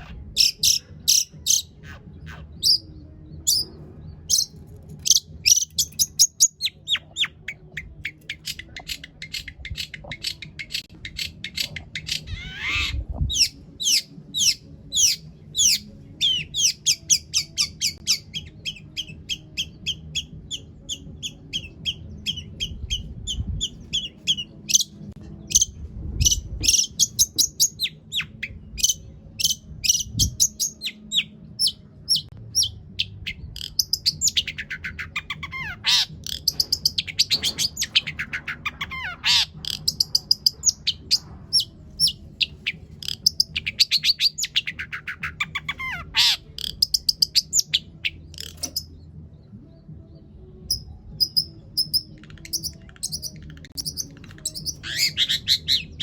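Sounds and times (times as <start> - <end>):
bird singing: 0.0 - 56.0
low background hum: 0.0 - 56.0.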